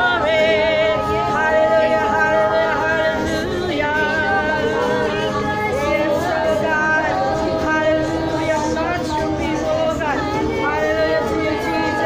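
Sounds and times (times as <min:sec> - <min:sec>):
group singing worship song: 0:00.0 - 0:12.0.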